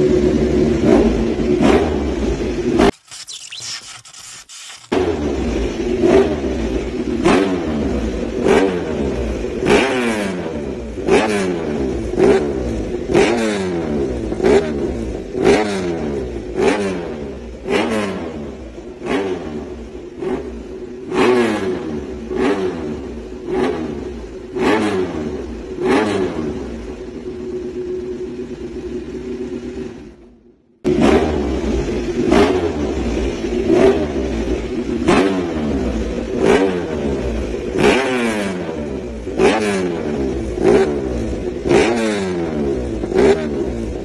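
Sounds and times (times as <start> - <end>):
motorcycle engine revving: 0.0 - 30.1, 30.9 - 44.0.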